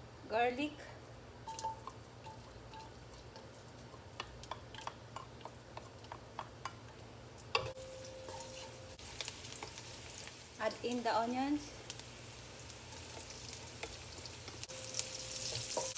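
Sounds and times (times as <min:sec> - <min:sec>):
garlic sauteing in hot oil: 0:01.2 - 0:15.9.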